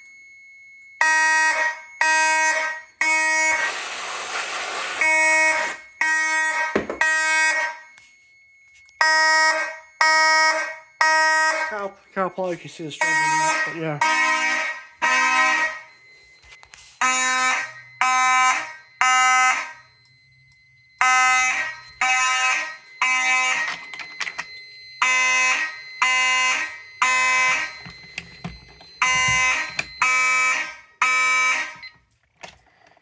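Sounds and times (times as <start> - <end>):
fire alarm buzzy blasts: 0.0 - 33.0.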